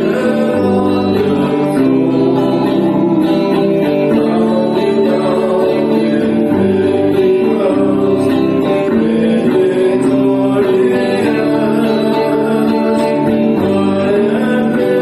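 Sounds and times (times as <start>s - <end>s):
guitar music: 0.0s - 15.0s.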